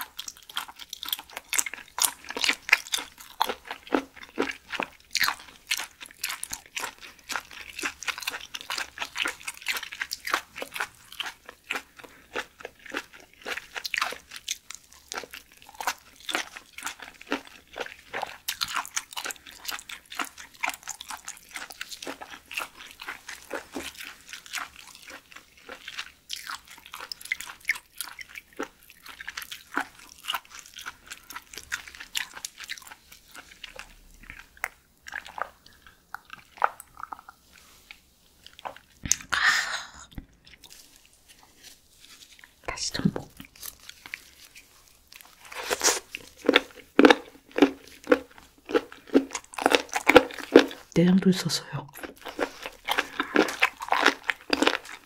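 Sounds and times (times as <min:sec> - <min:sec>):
crunchy chewing: 0:00.0 - 0:39.3, 0:43.3 - 0:51.0, 0:51.9 - 0:55.0.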